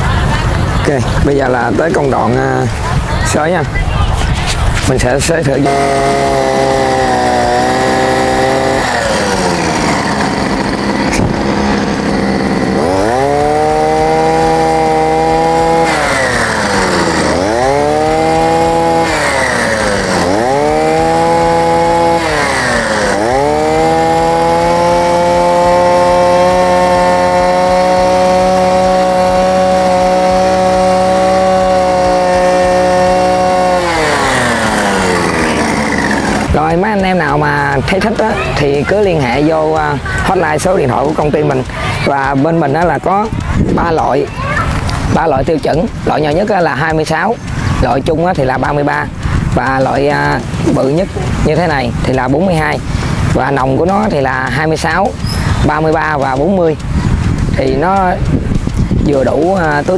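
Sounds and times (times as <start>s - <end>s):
brush cutter engine revving: 0.0s - 59.9s.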